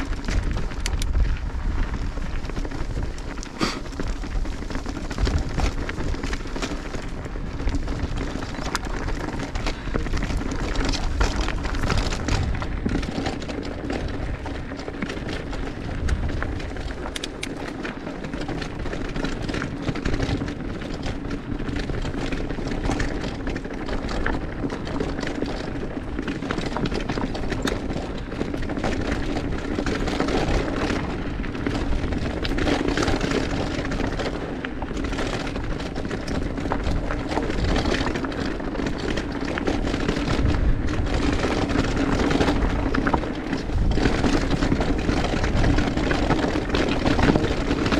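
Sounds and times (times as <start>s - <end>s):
bike rattling over bumps: 0.0s - 47.9s
bike tyres on dirt trail: 0.0s - 47.9s.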